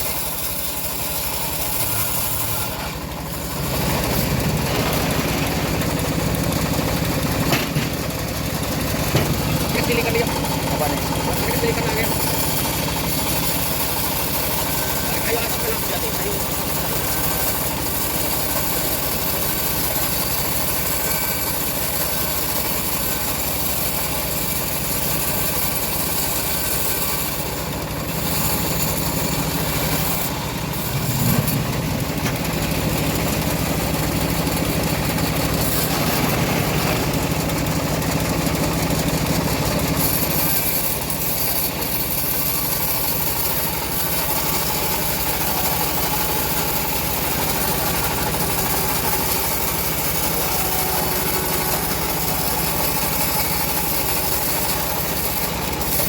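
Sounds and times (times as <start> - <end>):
bandsaw mill sawing log: 0.0 - 56.0.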